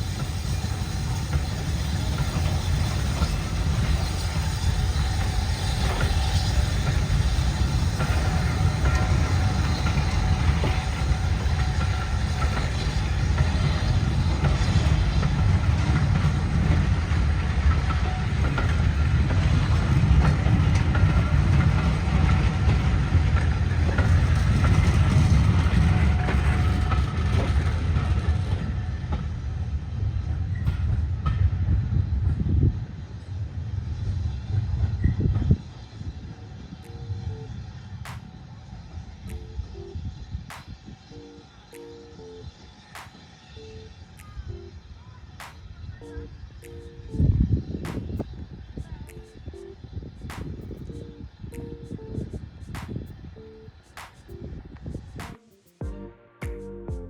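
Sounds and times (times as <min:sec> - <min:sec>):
train wheels rumbling: 0:00.0 - 0:55.4.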